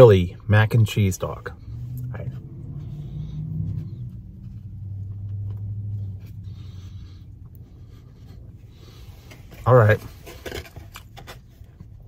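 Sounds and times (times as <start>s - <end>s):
low steady car hum: 0.0s - 12.0s.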